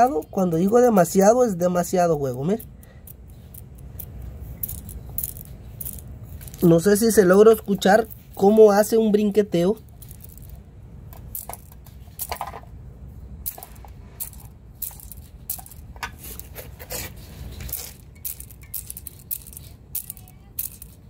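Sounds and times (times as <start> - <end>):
bearing rattling metallic clicks: 0.0 - 12.7, 13.4 - 16.4, 17.6 - 21.0.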